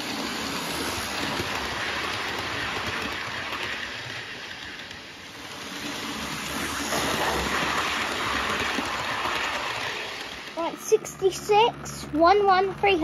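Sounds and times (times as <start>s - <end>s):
model train wheels rattling on rail: 0.0s - 13.0s.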